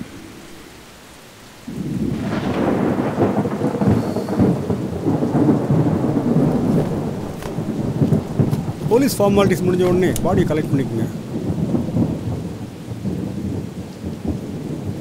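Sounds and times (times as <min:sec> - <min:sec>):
heavy rain: 0:00.0 - 0:15.0
rumbling thunder: 0:00.0 - 0:15.0.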